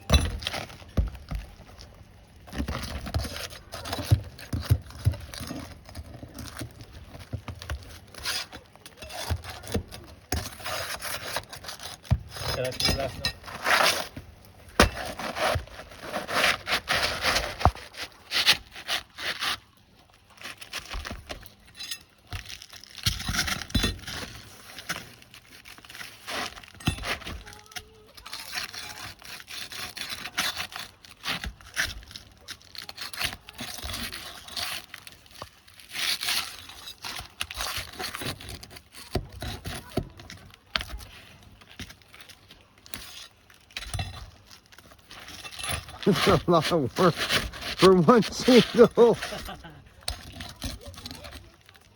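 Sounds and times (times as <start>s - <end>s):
pry bar scraping roof shingles: 0.0s - 19.7s, 20.4s - 51.9s.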